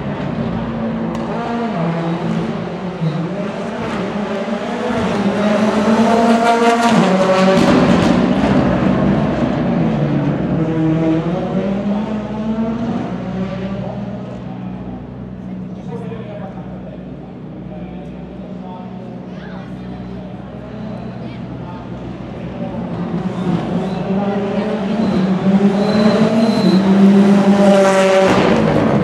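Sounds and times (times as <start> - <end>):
rally car engine shifting gears: 0.0 - 15.7, 20.3 - 29.0.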